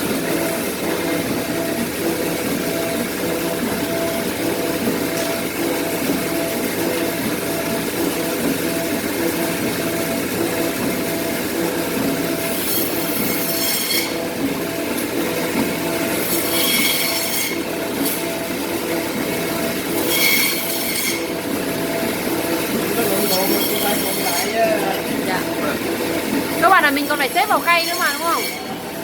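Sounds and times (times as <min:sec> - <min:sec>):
meat slicer motor running: 0:00.0 - 0:29.0.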